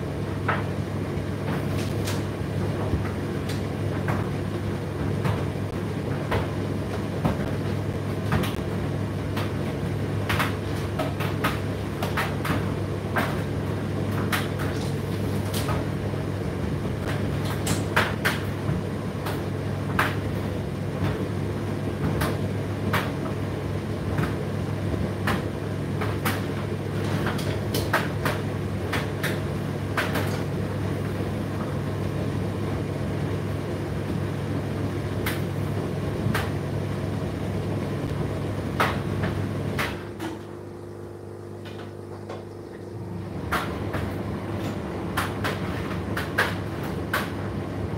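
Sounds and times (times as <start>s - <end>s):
tumble dryer motor hum: 0.0s - 47.9s.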